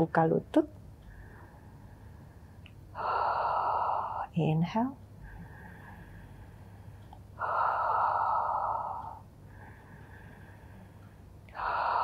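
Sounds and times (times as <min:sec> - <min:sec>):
woman breathing: 0:01.0 - 0:04.4, 0:05.1 - 0:12.0.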